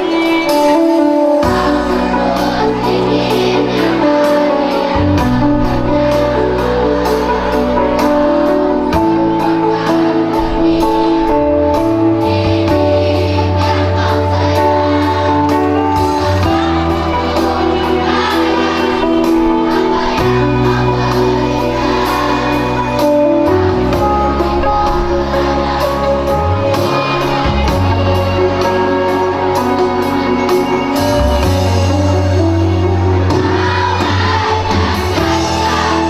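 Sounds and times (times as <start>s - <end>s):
children's choir singing: 0.0s - 36.0s
keyboard backing track with beat: 0.0s - 36.0s.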